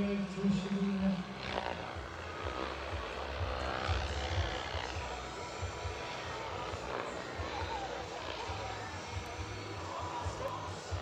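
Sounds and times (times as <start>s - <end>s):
model helicopter turbine whine: 0.0s - 11.0s.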